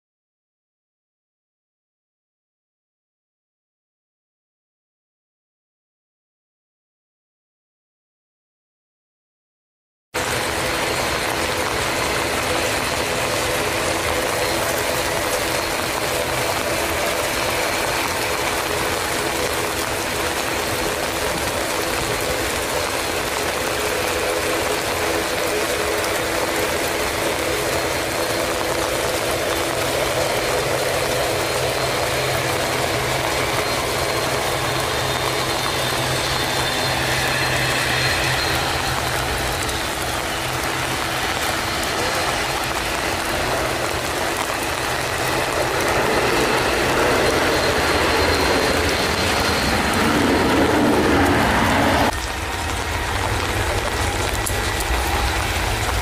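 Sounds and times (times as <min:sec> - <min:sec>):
heavy rain hiss: 0:10.2 - 0:56.0
jet engine roar with whine: 0:10.2 - 0:56.0
low hum: 0:10.2 - 0:56.0.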